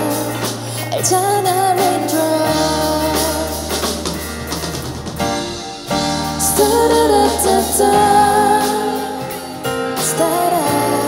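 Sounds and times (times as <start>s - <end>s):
person singing: 0.0s - 4.2s, 6.2s - 11.0s
acoustic guitar: 0.0s - 11.0s
drum kit: 0.0s - 11.0s.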